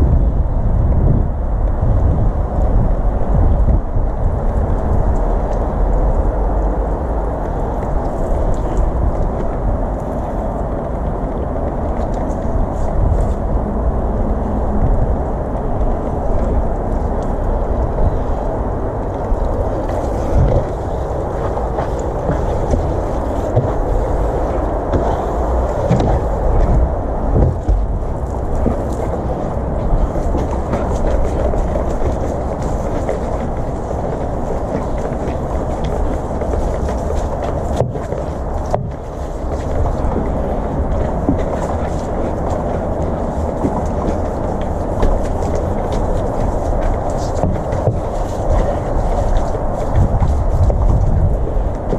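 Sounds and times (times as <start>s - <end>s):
constant low rumble: 0.0s - 51.9s.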